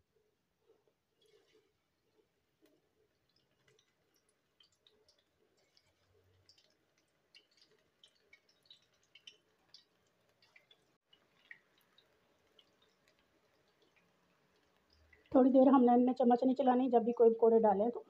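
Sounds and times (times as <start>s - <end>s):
food deep-frying in oil: 1.0s - 18.0s.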